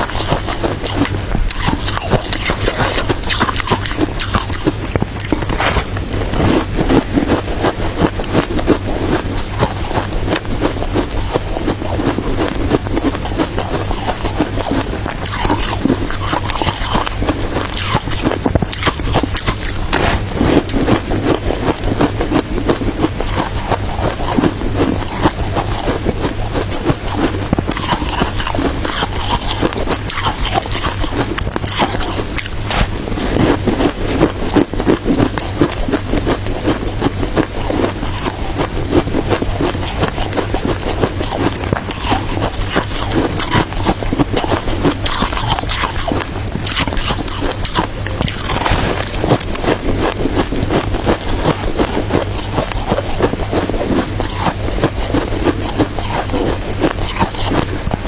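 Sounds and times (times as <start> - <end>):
crunchy ice chewing: 0.0 - 58.0
low hum: 0.0 - 58.0.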